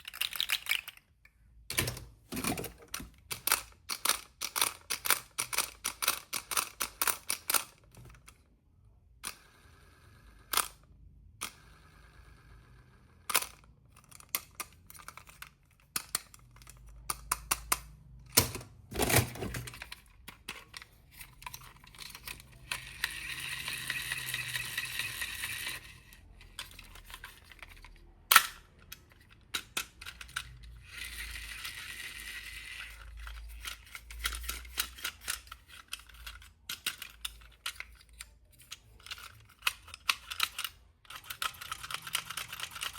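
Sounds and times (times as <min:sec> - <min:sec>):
plastic toy parts clicking: 0:00.0 - 0:08.5, 0:13.2 - 0:42.9.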